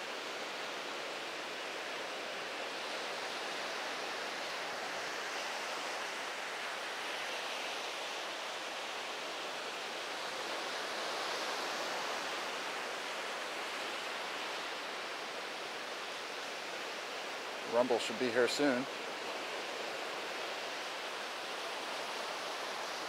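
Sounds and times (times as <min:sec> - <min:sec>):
ocean surf washing onto beach: 0:00.0 - 0:23.0.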